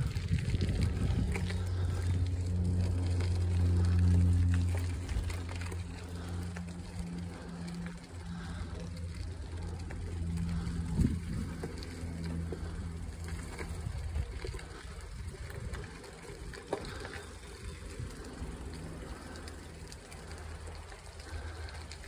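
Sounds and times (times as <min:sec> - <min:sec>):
bicycle tyres crunching on gravel: 0:00.0 - 0:22.0
low motor hum: 0:00.0 - 0:22.0.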